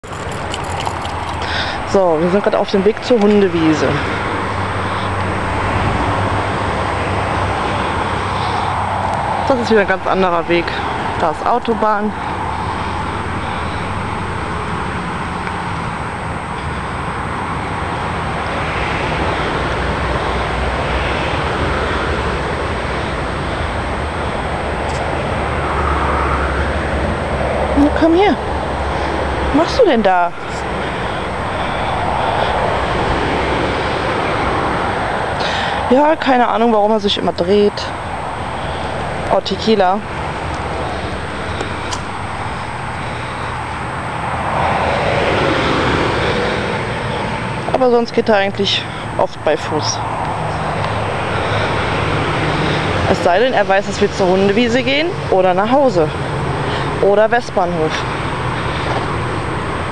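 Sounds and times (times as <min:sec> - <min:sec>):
motorway traffic: 0:00.0 - 0:59.9.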